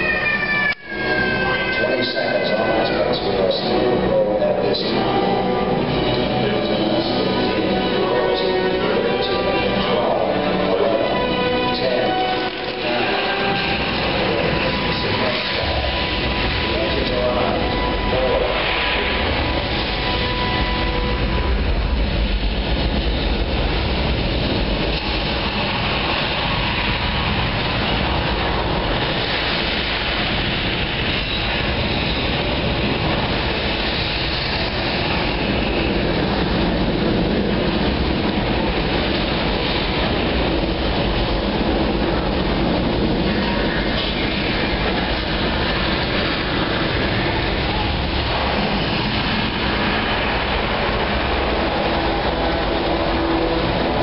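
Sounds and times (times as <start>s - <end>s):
rocket engine rumble: 0.0s - 54.0s
rushing hiss: 0.0s - 54.0s.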